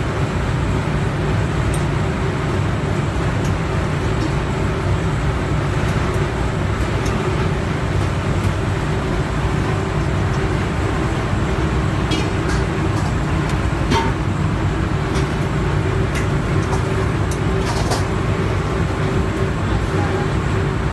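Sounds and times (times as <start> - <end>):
machinery hum: 0.0 - 20.9.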